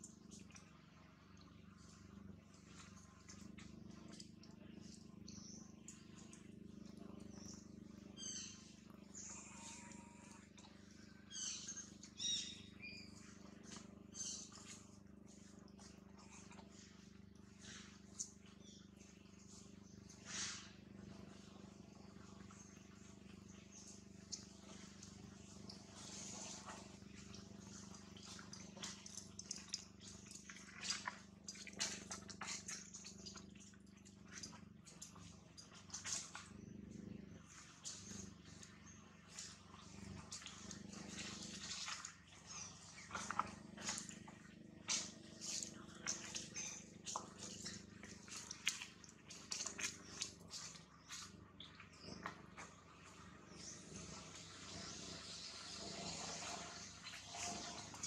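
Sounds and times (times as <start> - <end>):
faint low hum: 0.0 - 58.0.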